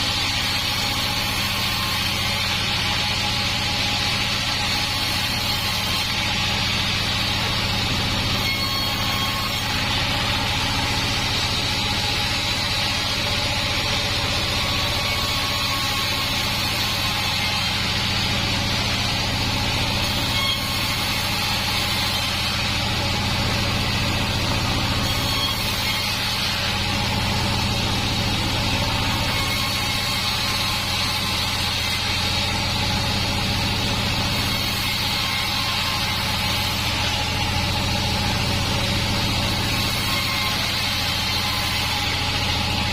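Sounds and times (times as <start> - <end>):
sawmill machinery humming and hissing: 0.0 - 42.9.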